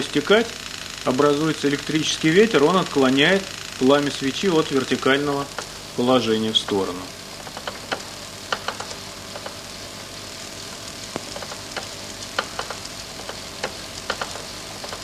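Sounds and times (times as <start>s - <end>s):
sharp crackling clicks: 0.0s - 6.0s, 7.1s - 15.0s
electrostatic machine whirring hum: 0.0s - 15.0s.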